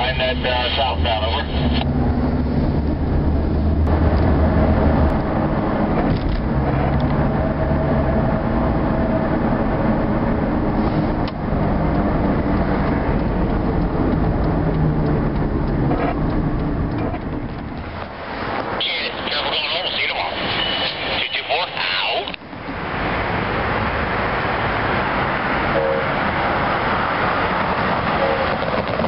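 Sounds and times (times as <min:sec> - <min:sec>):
road noise inside car: 0:00.0 - 0:29.0.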